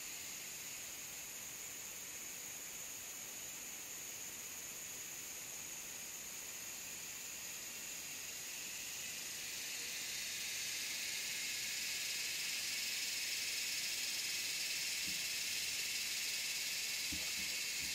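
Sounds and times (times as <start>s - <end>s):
insect chorus drone: 0.0s - 17.9s.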